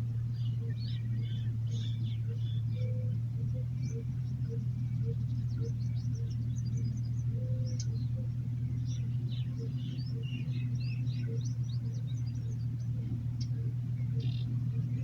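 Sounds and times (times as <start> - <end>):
birds chirping: 0.0 - 15.0
loud steady low hum: 0.0 - 15.0.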